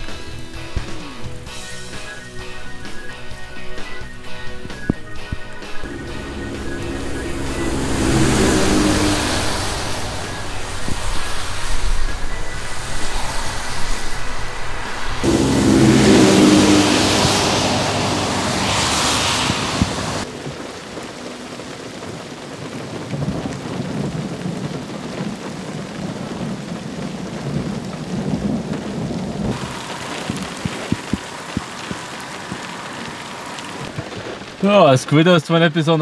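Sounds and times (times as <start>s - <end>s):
rain: 0.0s - 36.0s
thunder rumbling: 4.9s - 34.6s.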